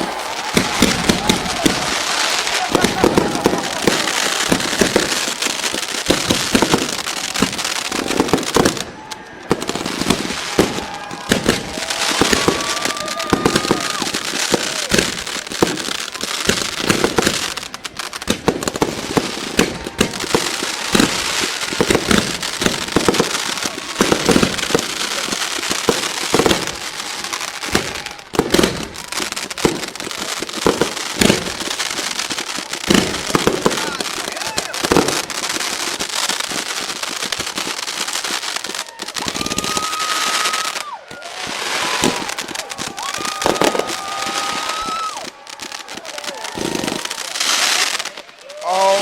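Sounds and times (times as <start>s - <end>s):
firecracker pops and crackles: 0.0s - 48.6s.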